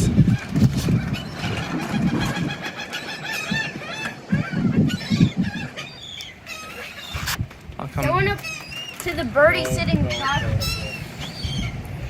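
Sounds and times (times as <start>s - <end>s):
birds chirping and clucking: 0.0s - 12.0s.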